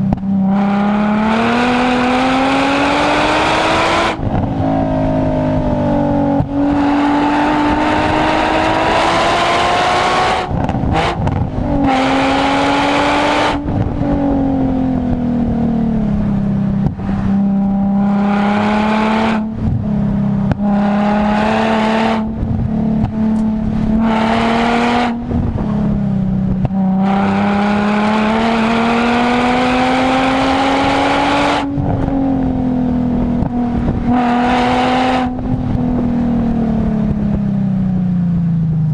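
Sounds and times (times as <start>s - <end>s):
car exhaust accelerating: 0.0s - 38.9s.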